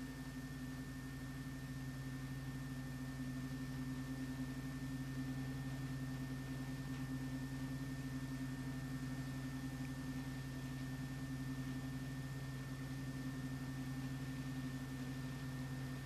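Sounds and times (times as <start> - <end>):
faint high whine: 0.0 - 16.0
low two-pitch hum: 0.0 - 16.0.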